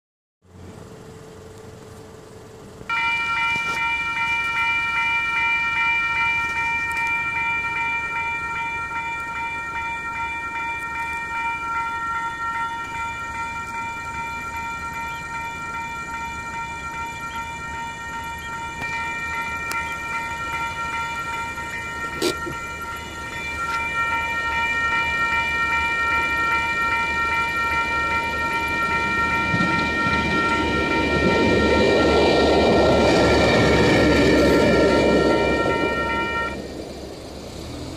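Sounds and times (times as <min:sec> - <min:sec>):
train rumble: 0:00.4 - 0:37.9
electronic warning bell ringing: 0:02.5 - 0:36.8.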